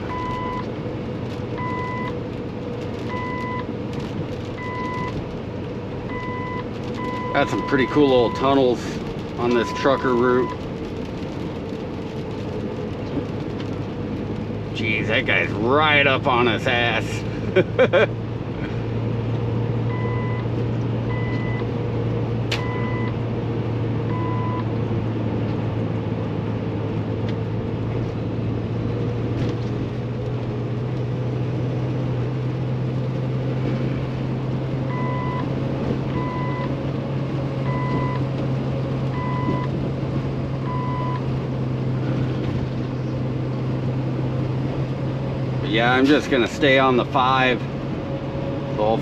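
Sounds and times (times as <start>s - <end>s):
diesel truck engine drone: 0.0s - 49.0s
road noise: 0.0s - 49.0s.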